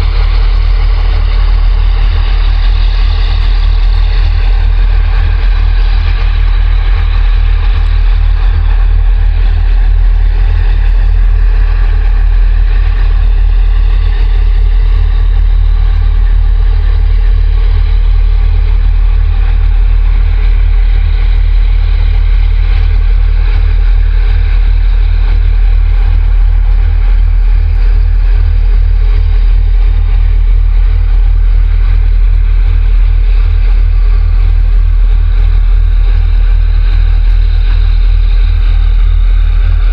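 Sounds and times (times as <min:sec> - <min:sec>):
low rumble of ship engines: 0:00.0 - 0:39.9.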